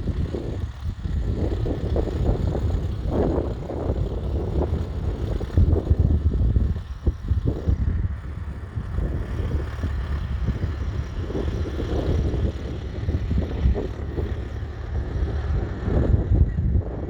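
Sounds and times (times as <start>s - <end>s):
diesel engine running: 0.0s - 17.0s
wind buffeting microphone: 0.0s - 17.0s.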